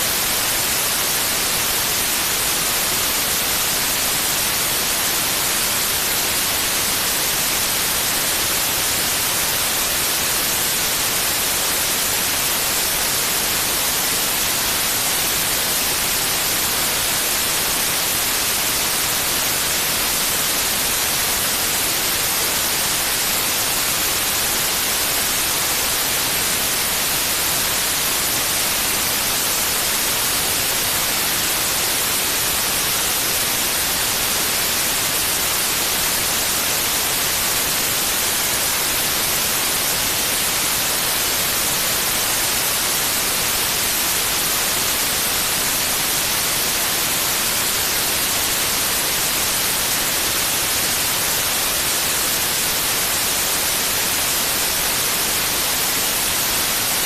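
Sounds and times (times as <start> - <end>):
steady white noise: 0.0 - 57.0.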